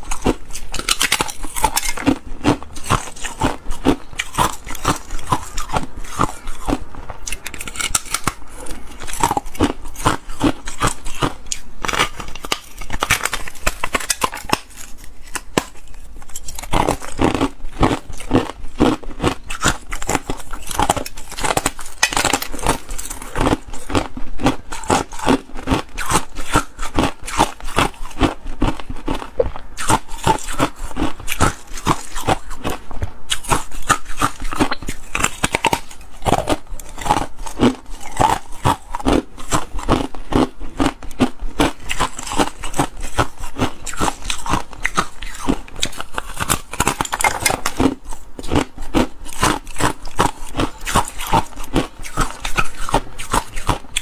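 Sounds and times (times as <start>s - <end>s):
ice being chewed crunching: 0.0s - 54.0s.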